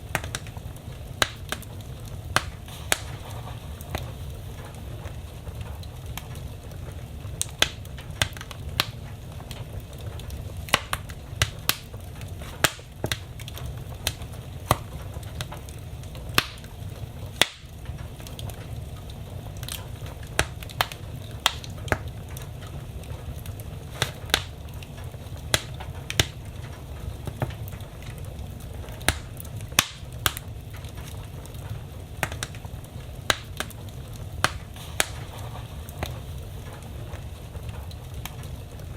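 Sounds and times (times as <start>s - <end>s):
burning logs crackling and popping: 0.0s - 38.9s
low rumble of flames: 0.0s - 38.9s.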